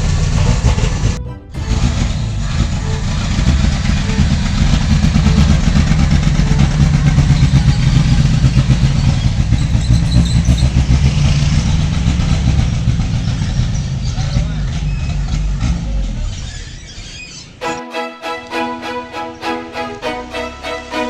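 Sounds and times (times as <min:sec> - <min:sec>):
car engine running: 0:00.0 - 0:17.2.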